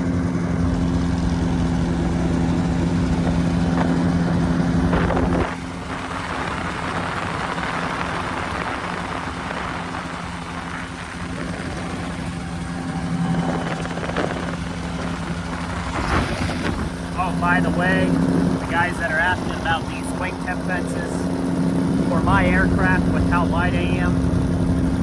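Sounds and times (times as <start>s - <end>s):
ultralight airplane engine droning: 0.0s - 25.0s.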